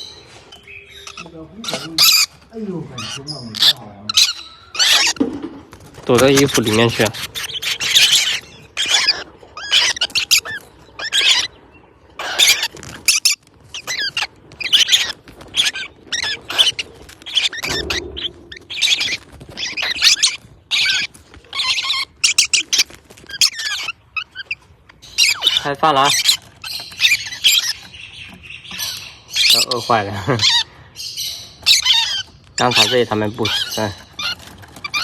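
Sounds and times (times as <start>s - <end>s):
parrots squawking: 0.0s - 35.0s.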